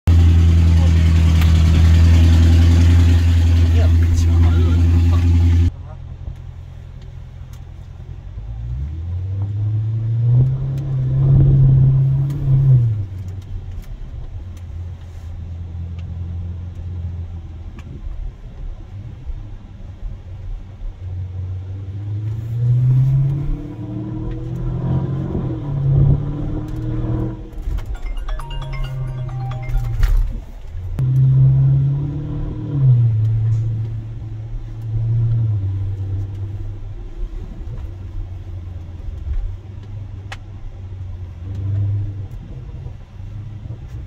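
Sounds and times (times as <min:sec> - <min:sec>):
car engine accelerating: 0:00.0 - 0:06.4, 0:07.1 - 0:15.0, 0:15.6 - 0:28.0, 0:30.6 - 0:44.0.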